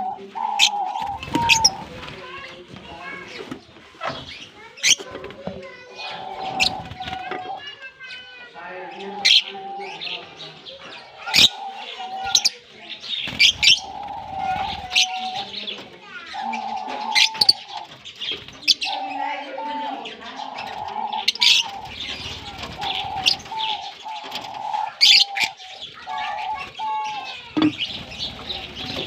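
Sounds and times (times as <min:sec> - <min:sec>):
lovebirds chirping and screeching: 0:00.0 - 0:29.0
low bird chattering: 0:00.0 - 0:29.0.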